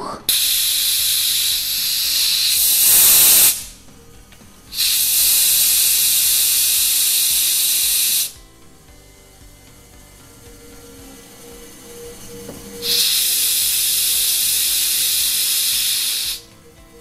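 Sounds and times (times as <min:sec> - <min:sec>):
gas hissing from relief valve: 0:00.3 - 0:17.0.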